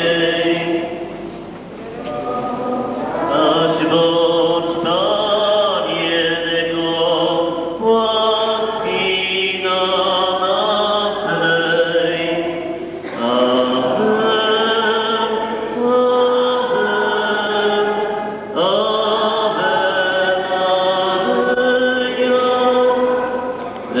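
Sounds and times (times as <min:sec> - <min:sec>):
voices singing a hymn: 0:00.0 - 0:24.0.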